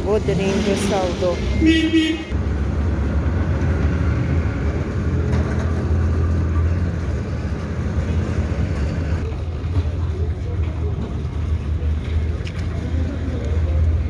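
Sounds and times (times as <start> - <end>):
engine running: 0.0 - 14.0
traffic rumble: 0.0 - 14.0.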